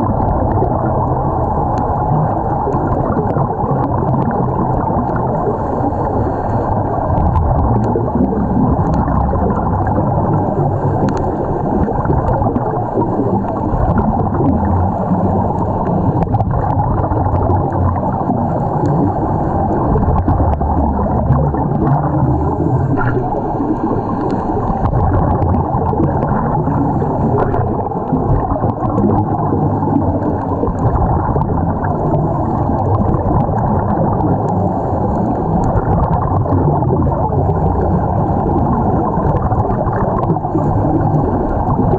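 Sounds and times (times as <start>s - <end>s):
divers' air bubbling: 0.0s - 41.9s
muffled underwater rush: 0.0s - 41.9s.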